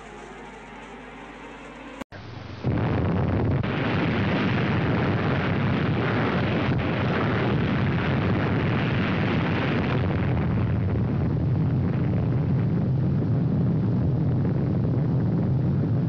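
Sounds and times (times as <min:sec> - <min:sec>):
explosion rumble: 0:02.3 - 0:16.0.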